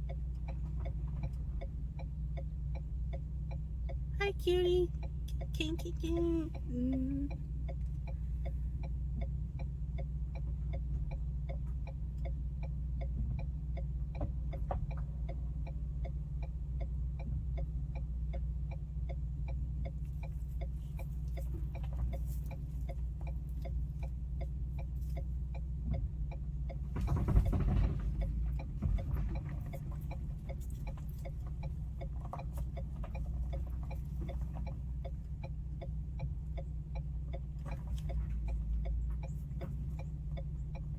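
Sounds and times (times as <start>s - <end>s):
car indicator clicking: 0.0s - 27.2s, 28.1s - 40.9s
car engine idling hum: 0.0s - 40.9s.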